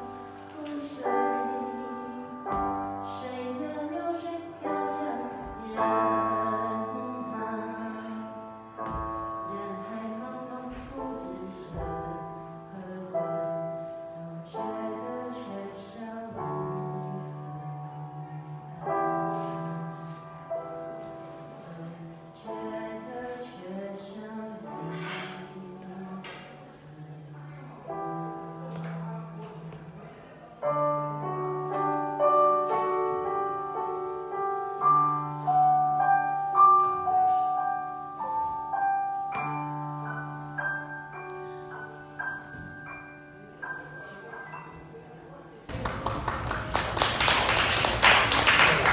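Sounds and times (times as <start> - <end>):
digital keyboard playing slow song: 0.0 - 45.7.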